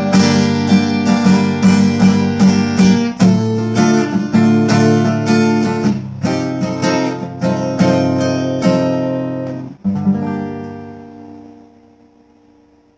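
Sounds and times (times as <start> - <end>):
acoustic guitar strumming: 0.0 - 12.9.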